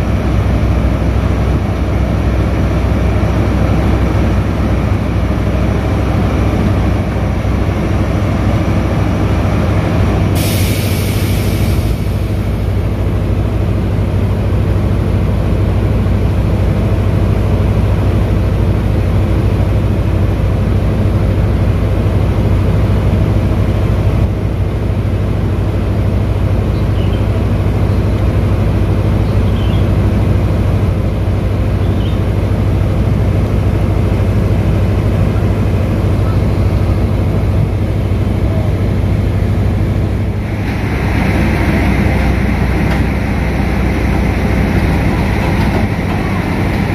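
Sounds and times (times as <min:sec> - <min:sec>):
diesel engine low drone: 0:00.0 - 0:46.9.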